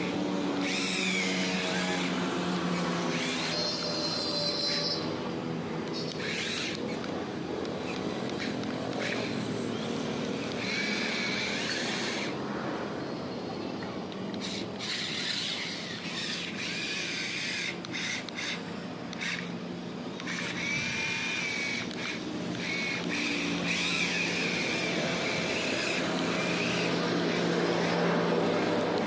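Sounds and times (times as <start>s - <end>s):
small electric motor whirring: 0.0s - 12.4s, 14.0s - 29.0s.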